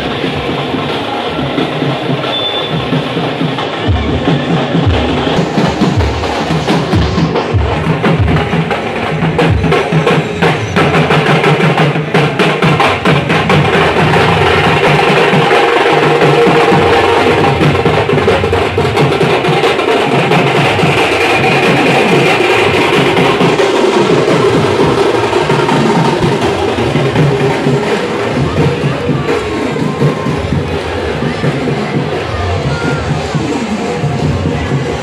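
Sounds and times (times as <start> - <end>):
drums beating fast rhythm: 0.0 - 35.0
thick steady sound layer: 0.0 - 35.0.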